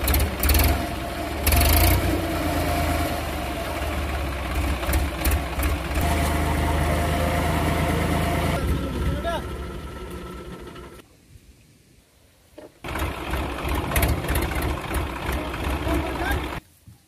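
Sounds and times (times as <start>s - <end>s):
tractor diesel engine under load: 0.0s - 11.0s, 12.8s - 16.6s.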